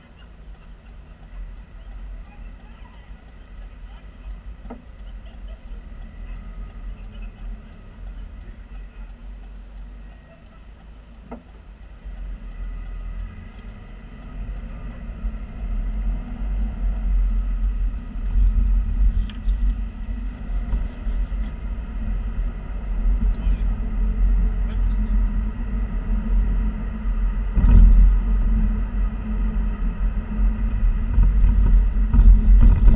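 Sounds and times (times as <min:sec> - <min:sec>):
car interior road noise: 0:00.0 - 0:32.9.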